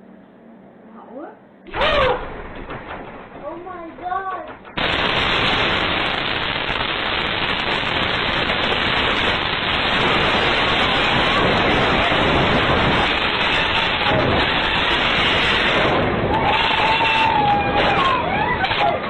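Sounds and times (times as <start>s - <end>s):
loud static hiss: 1.6s - 19.0s.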